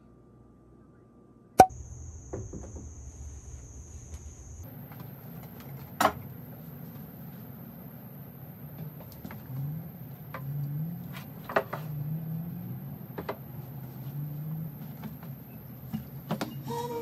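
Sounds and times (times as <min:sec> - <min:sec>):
steady low hum: 0:01.6 - 0:16.8.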